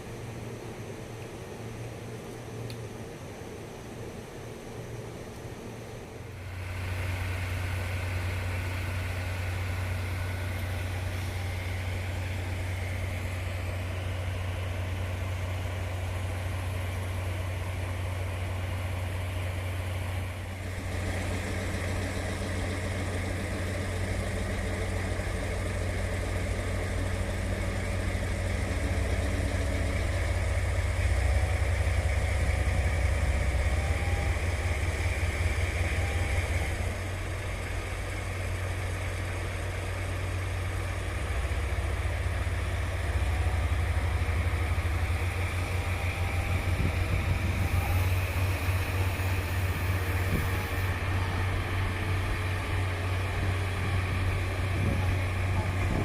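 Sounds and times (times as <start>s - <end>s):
train mechanical hum: 0.0s - 56.0s.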